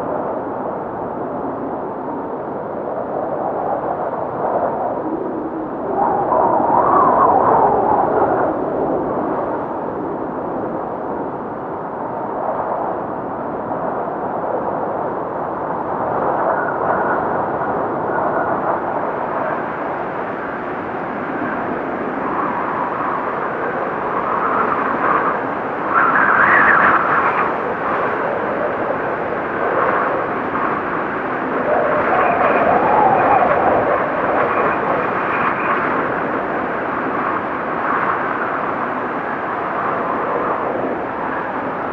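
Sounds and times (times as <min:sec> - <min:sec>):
blizzard wind gusting: 0:00.0 - 0:41.9.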